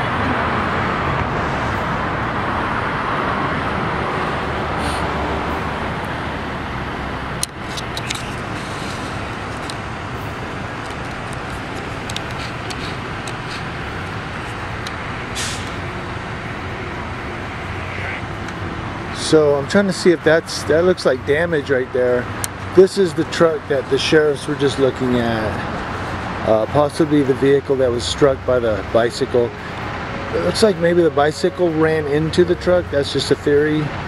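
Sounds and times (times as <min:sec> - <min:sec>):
passing road traffic: 0:00.0 - 0:34.0.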